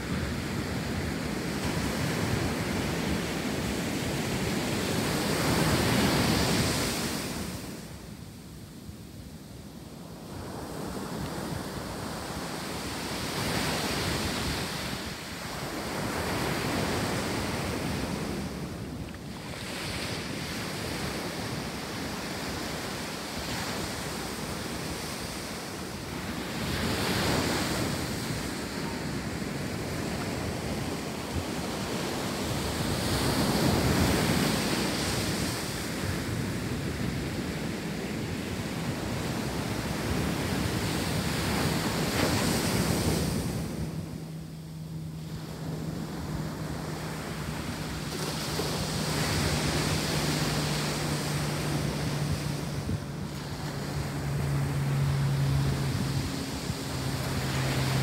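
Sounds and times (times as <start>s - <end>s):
wind on microphone: 0.0s - 58.0s
ocean surf breaking: 10.2s - 58.0s.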